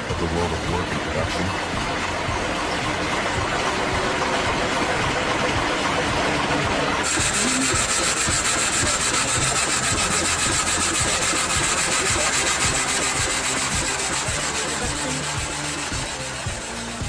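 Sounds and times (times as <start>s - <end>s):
saw cutting through wood: 0.0s - 17.0s.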